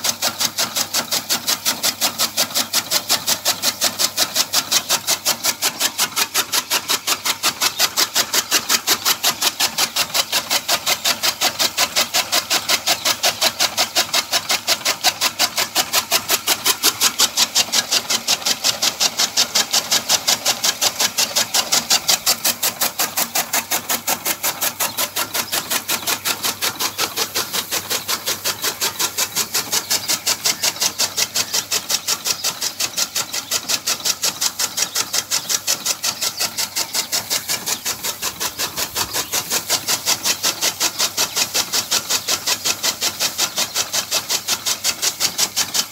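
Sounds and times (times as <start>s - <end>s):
chaff cutter chopping straw: 0.0s - 45.9s.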